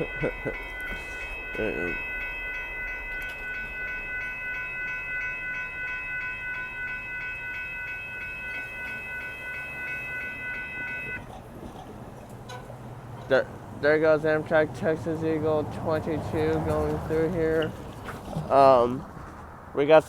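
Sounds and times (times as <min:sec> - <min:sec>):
railroad crossing bell dinging: 0:00.0 - 0:18.0
train rumbling: 0:00.0 - 0:20.0.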